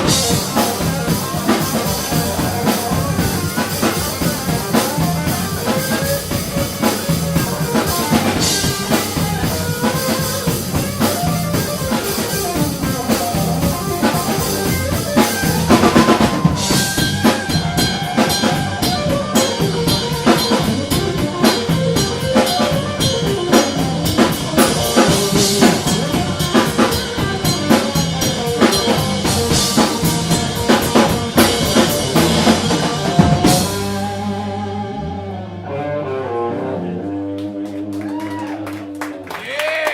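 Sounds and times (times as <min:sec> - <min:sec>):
drum kit beat: 0:00.0 - 0:35.5
live rock band playing: 0:00.0 - 0:39.4.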